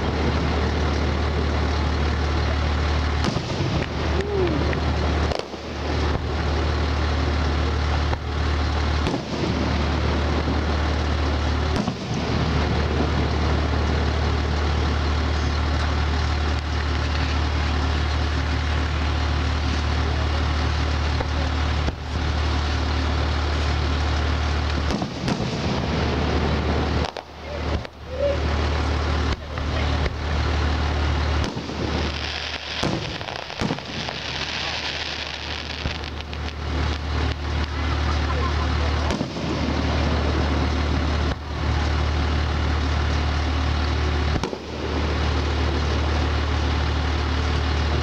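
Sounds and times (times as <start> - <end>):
firework shells bursting: 0.0 - 43.3, 44.2 - 48.0
fireworks crackling hiss: 0.0 - 48.0
low steady rumble: 0.0 - 48.0.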